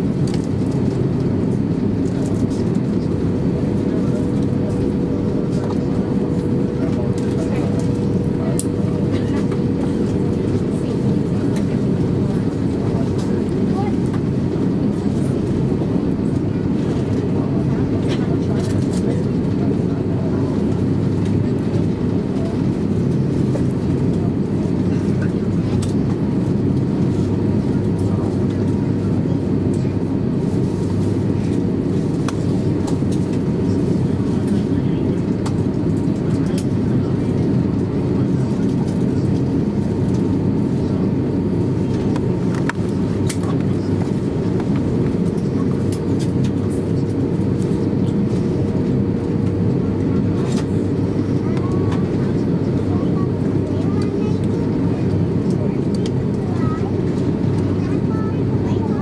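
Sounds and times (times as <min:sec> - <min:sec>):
low jet engine rumble: 0:00.0 - 0:59.0.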